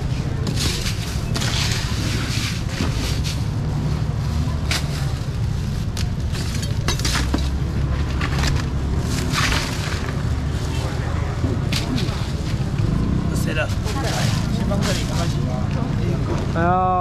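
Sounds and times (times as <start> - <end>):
goods and bags rustling and clattering: 0.0 - 12.8, 13.5 - 16.5
low market rumble: 0.0 - 17.0.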